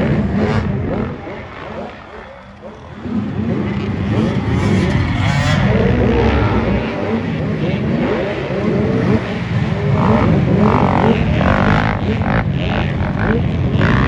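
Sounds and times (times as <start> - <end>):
motocross engines revving: 0.0 - 14.0.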